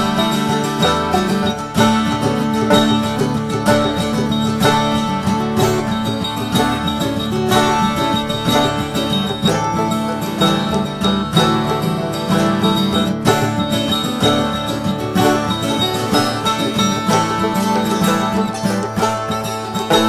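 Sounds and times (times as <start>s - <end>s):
acoustic guitar: 0.0s - 20.0s
banjo picking: 0.0s - 20.0s.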